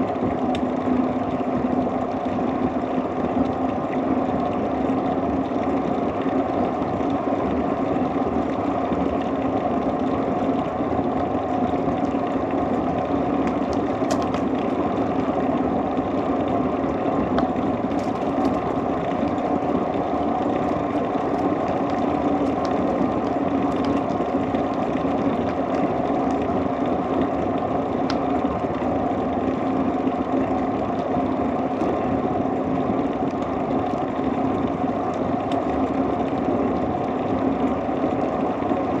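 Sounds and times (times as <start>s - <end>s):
bicycle tyres rolling on road: 0.0s - 39.0s.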